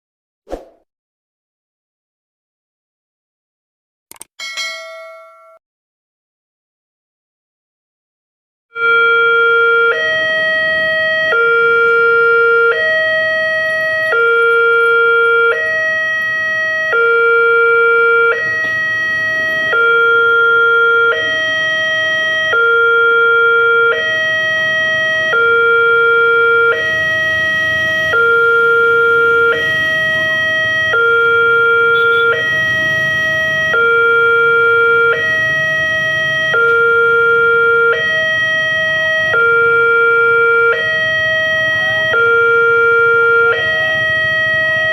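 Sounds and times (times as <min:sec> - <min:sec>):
level crossing two-tone alarm: 0:08.8 - 0:44.9.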